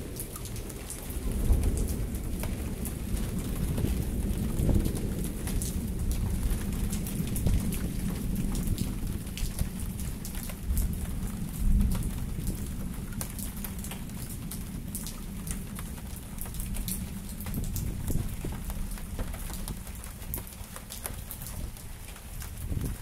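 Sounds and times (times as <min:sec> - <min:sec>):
low storm rumble: 0:00.0 - 0:20.6, 0:21.2 - 0:23.0
rain drops ticking: 0:00.0 - 0:23.0.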